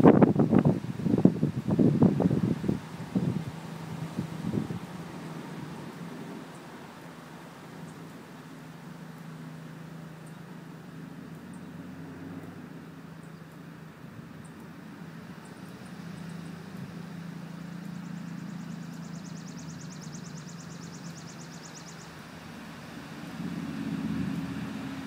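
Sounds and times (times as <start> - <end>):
engine idling hum: 0.0 - 25.0.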